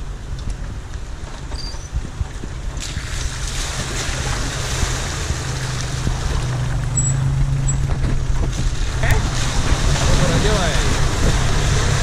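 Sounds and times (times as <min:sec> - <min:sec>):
low engine hum: 0:00.0 - 0:12.0
tyres splashing through water: 0:02.3 - 0:12.0.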